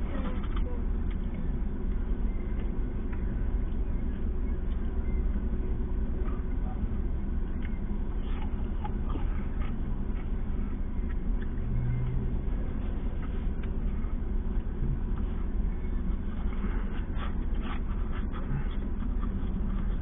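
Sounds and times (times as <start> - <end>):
low hum: 0.0 - 20.0
low outdoor rumble: 0.0 - 20.0.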